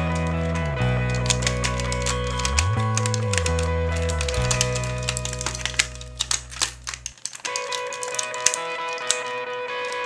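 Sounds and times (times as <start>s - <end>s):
plucked guitar-like music: 0.0s - 10.0s
sharp clicks: 0.0s - 10.0s.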